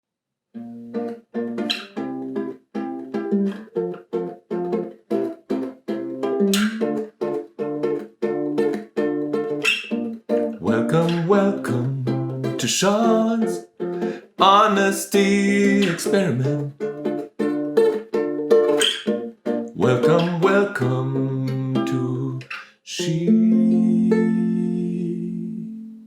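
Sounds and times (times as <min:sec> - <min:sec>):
small guitar strummed choppily: 0:00.6 - 0:26.0.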